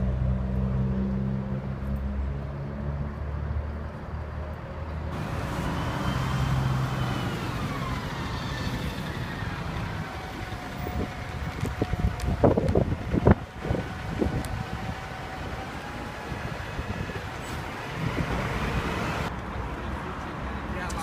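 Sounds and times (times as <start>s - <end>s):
low engine hum: 0.0s - 19.8s
road traffic noise: 0.0s - 21.0s.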